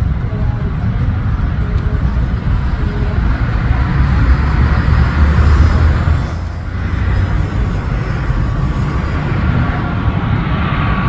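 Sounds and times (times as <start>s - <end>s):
aircraft engine drone overhead: 0.0s - 11.0s.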